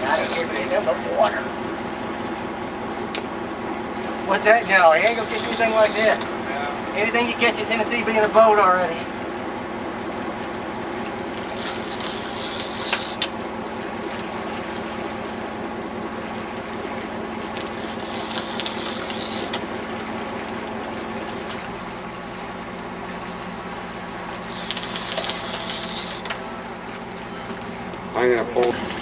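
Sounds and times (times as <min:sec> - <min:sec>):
boat engine running: 0:00.0 - 0:29.0
water splashing along hull: 0:00.0 - 0:29.0.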